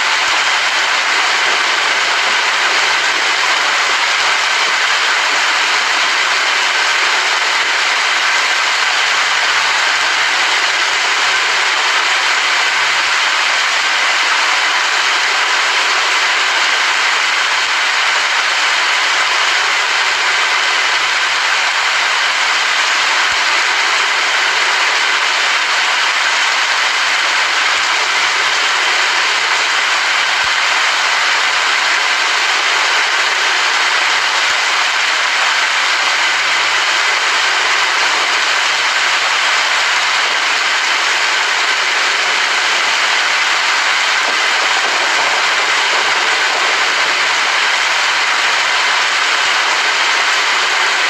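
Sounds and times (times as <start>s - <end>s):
rain falling: 0.0s - 51.0s.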